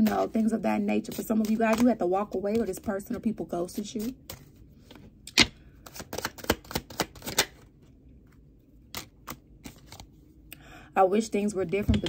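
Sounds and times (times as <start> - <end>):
cards shuffled by hand: 0.0 - 10.2.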